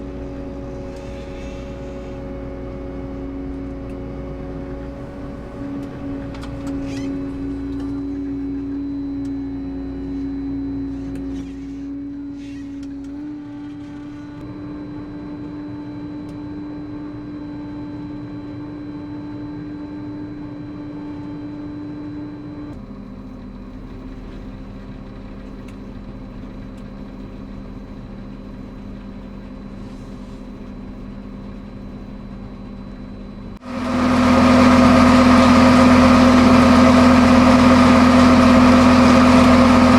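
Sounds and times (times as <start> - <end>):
harvester engine and machinery droning: 0.0 - 39.9.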